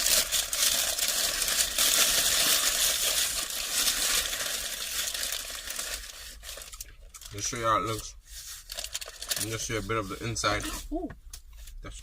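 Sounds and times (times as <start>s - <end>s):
wrapper crinkling: 0.0s - 10.9s.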